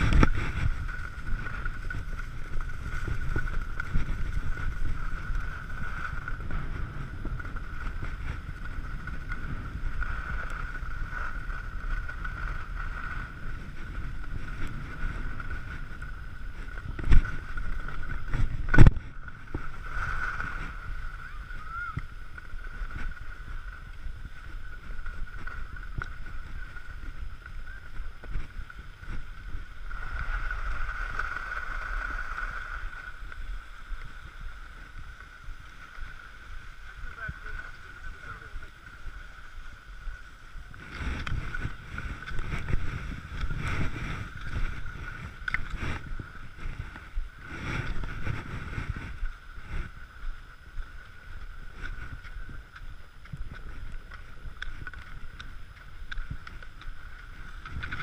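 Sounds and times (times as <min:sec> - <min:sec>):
skis scraping over snow: 0:00.0 - 0:58.0
wind on microphone: 0:00.0 - 0:58.0.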